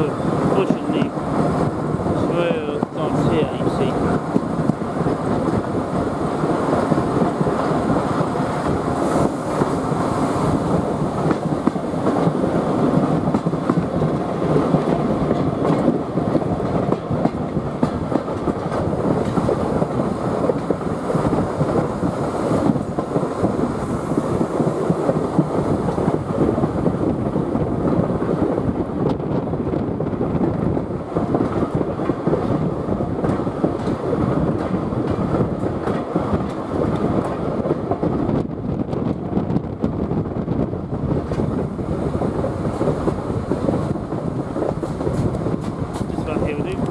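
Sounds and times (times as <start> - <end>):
train wheels clattering on track: 0.0 - 46.9.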